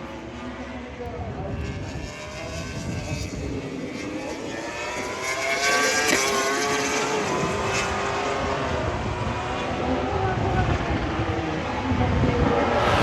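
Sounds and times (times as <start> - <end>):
racing motorcycle engine accelerating: 0.2 - 13.0.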